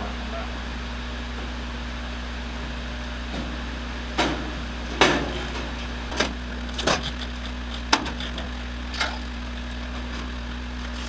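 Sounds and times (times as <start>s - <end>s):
steady shop hum: 0.0s - 11.0s.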